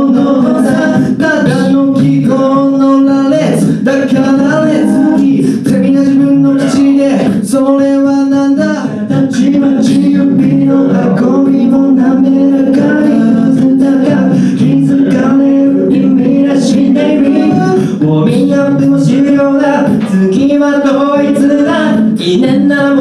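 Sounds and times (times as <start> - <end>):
vocal group singing in harmony: 0.0 - 23.0.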